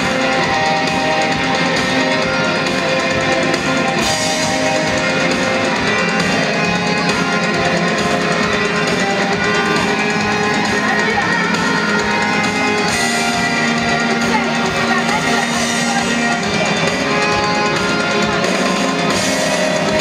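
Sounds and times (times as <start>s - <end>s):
backing music with guitar and drums: 0.0s - 20.0s.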